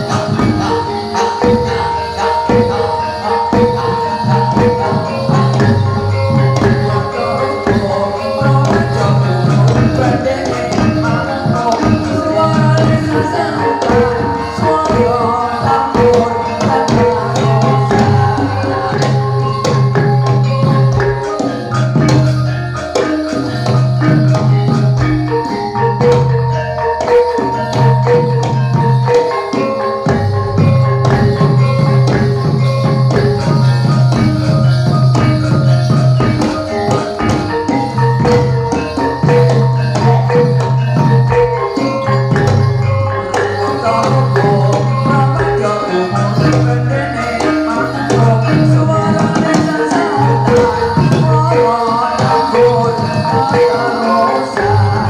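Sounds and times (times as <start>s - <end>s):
hand drum strokes: 0.0s - 53.8s
bronze metallophone notes: 0.0s - 55.0s.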